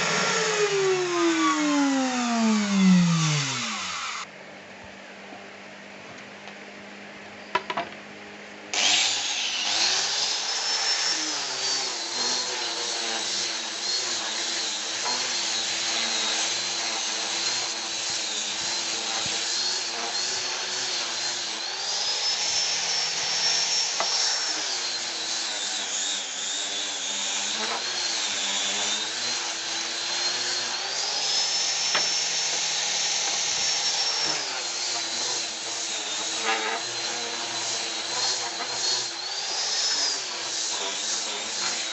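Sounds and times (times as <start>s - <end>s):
wood router motor whine: 0.0s - 4.3s, 8.7s - 41.9s.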